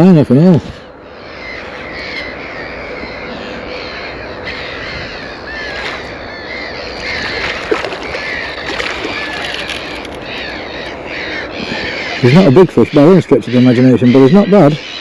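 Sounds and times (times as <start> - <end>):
birds calling: 0.0 - 15.0
outdoor background noise: 0.0 - 15.0.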